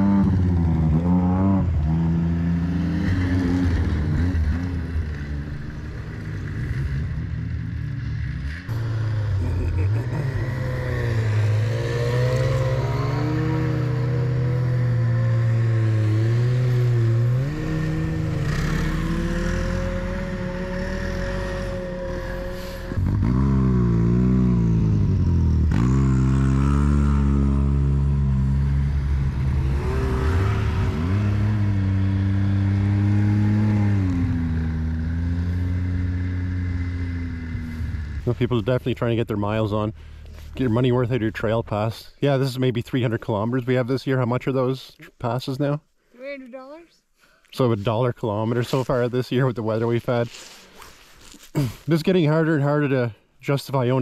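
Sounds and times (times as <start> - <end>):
snowmobile engines running: 0.0 - 46.8, 47.6 - 54.0.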